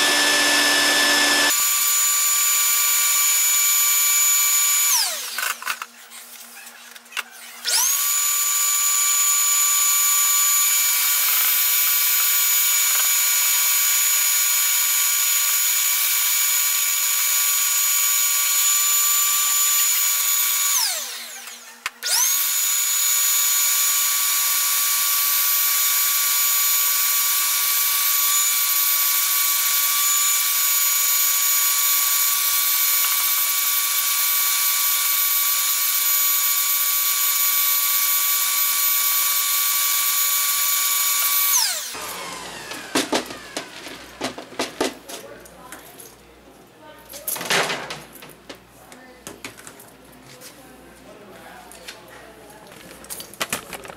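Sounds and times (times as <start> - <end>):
shop vacuum motor whine: 0.0 - 5.9, 6.9 - 45.0.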